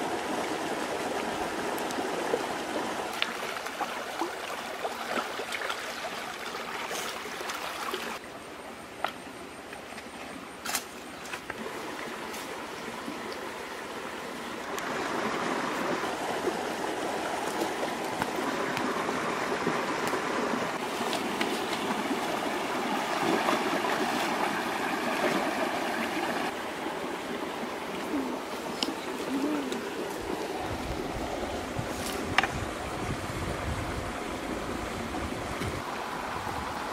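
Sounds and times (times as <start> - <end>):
rocky stream trickling: 0.0 - 8.2, 11.2 - 36.9.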